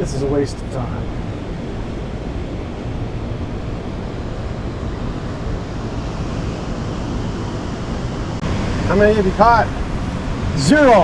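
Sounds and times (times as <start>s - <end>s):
fast-moving water rushing: 0.0s - 11.0s
wind blowing across microphone: 0.0s - 11.0s.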